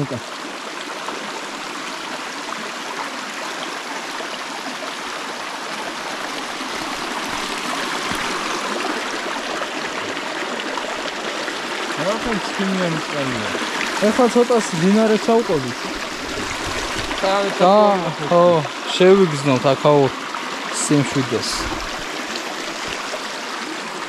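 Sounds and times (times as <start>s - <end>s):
stream water flowing: 0.0s - 24.0s.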